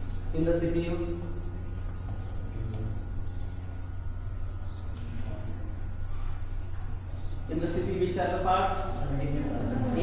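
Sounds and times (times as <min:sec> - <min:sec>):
steady low hum: 0:00.0 - 0:10.0
thin constant high tone: 0:00.0 - 0:10.0.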